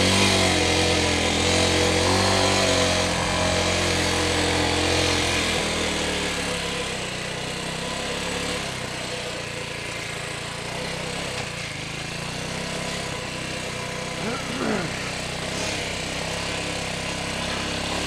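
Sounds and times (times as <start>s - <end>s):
dirt bike engine at low revs: 0.0s - 18.0s.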